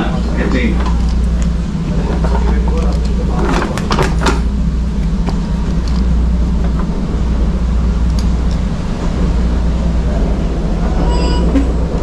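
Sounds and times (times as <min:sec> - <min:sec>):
train car rumbling on rails: 0:00.0 - 0:12.0.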